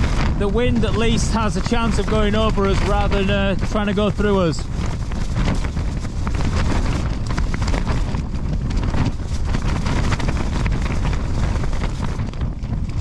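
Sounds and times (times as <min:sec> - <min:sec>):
tent fabric flapping in wind: 0:00.0 - 0:13.0
wind gusts hitting microphone: 0:00.0 - 0:13.0.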